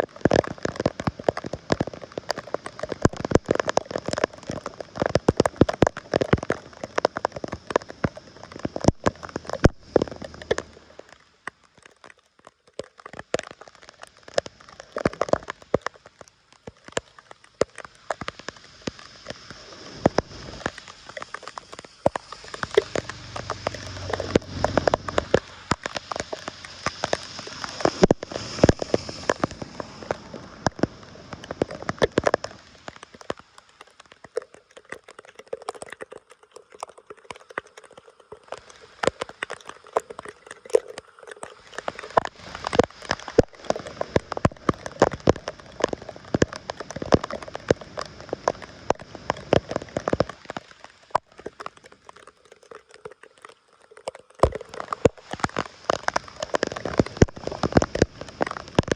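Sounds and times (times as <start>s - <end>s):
rush of moving water: 0.0s - 58.9s
water pattering and splashing: 0.0s - 58.9s.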